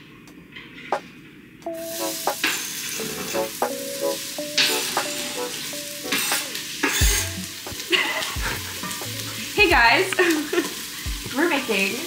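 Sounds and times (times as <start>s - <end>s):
onions sizzling in a pot: 1.7s - 12.0s.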